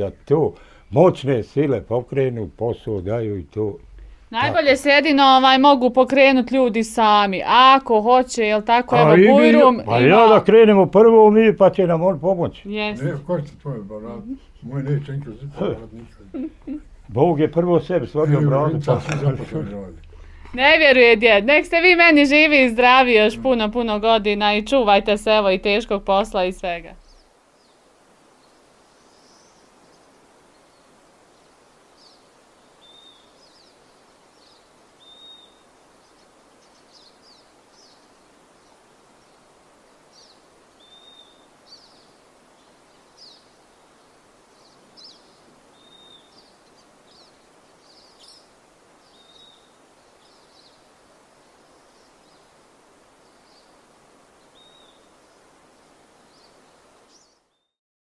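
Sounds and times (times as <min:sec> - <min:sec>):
faint background hiss: 0:00.0 - 0:57.8
small birds chirping: 0:00.0 - 0:57.8.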